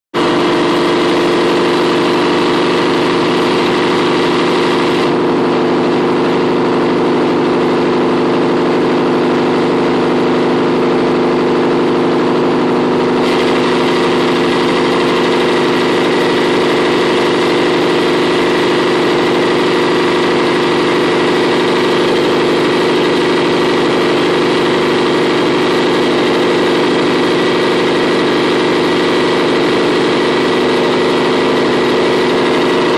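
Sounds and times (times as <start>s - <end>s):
compressor humming: 0.1s - 32.9s.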